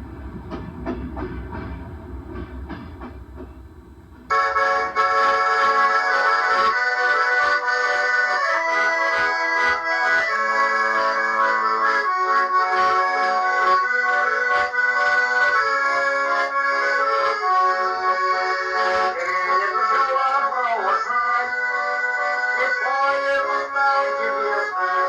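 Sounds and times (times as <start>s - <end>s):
accordion playing: 4.3s - 25.0s.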